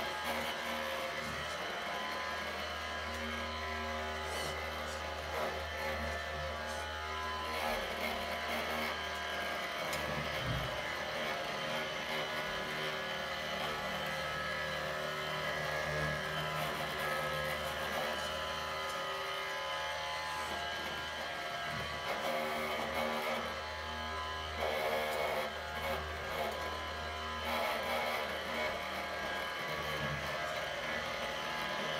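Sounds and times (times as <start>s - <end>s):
toy vehicle motors humming: 0.0s - 31.9s.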